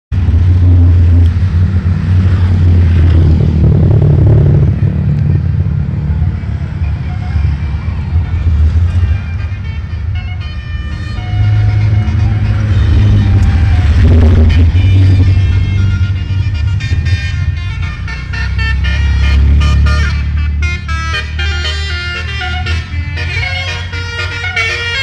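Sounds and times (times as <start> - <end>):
bus engine droning: 0.1 - 25.0
multi-tone musical horn: 4.8 - 25.0.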